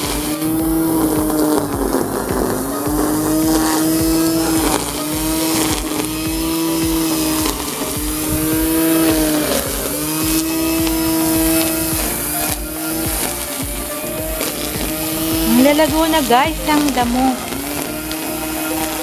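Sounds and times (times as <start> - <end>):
electric line trimmer whining: 0.0 - 19.0.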